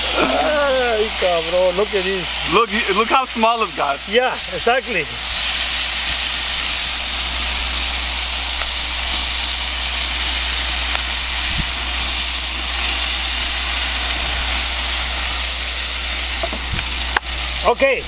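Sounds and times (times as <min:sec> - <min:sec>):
burger patties sizzling: 0:00.0 - 0:18.0.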